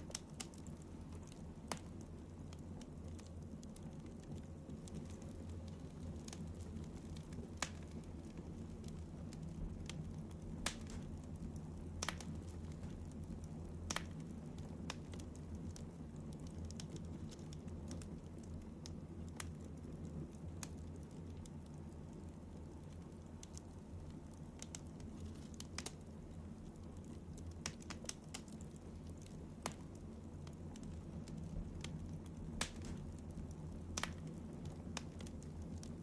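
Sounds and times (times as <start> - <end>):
soft clicks and crackles: 0.0 - 36.0.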